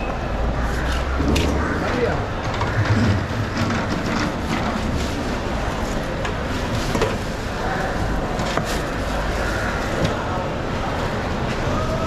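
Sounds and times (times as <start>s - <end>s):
indistinct voices: 0.0s - 12.0s
low rumble of background din: 0.0s - 12.0s.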